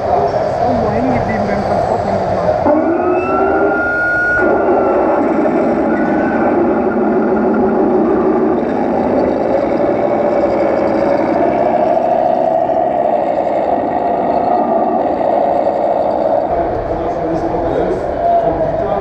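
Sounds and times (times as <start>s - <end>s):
model tank engine running: 0.0s - 19.0s.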